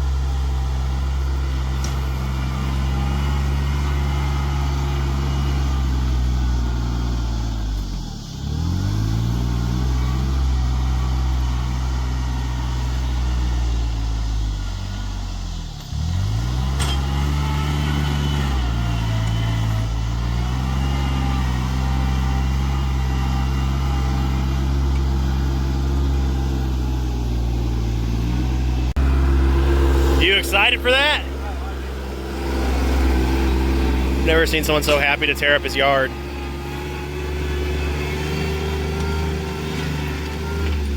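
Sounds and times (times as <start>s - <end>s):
engine running under load: 0.0s - 40.9s.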